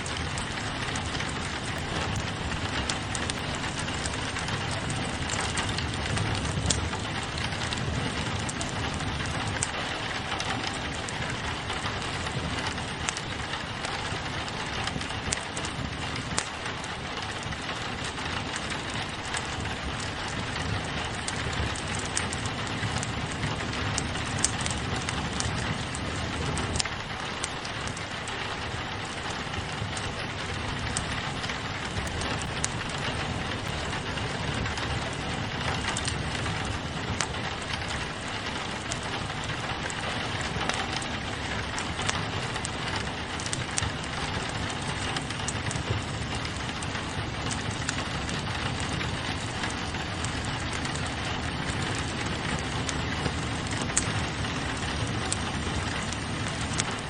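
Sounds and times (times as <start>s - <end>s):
rain against a window: 0.0s - 57.0s
wood fire crackling: 0.0s - 57.0s.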